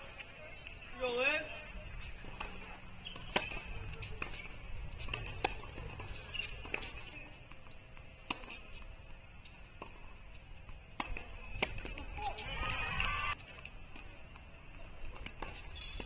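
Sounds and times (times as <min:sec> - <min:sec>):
tennis ball struck and bounced: 0:02.2 - 0:16.0.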